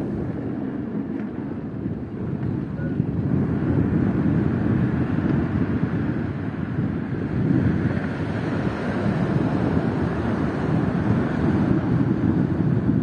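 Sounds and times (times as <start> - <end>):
ocean surf: 0.0 - 13.0
wind buffeting the microphone: 0.0 - 13.0.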